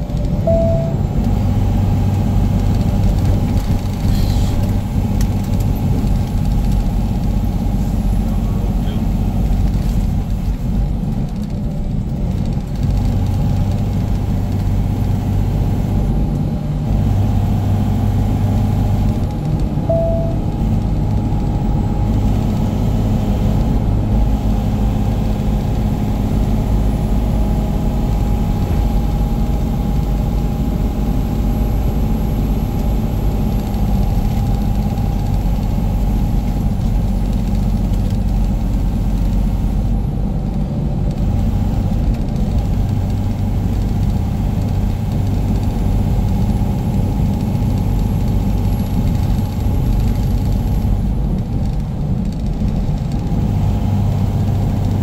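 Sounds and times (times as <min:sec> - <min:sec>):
road rumble: 0:00.0 - 0:55.0
truck diesel engine droning: 0:00.0 - 0:55.0.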